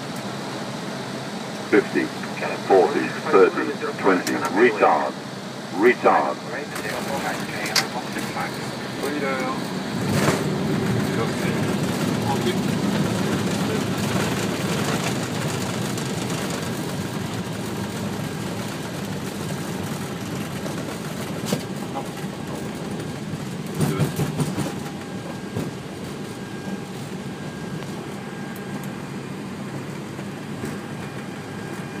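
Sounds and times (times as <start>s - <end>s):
airliner engines and wheels roaring: 0.0s - 32.0s.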